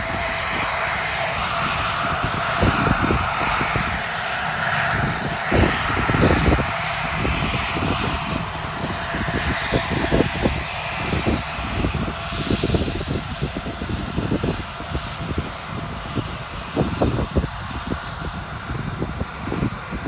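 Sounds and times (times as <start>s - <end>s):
jet engines hissing with whine: 0.0s - 20.0s
wind rumble on microphone: 0.0s - 20.0s.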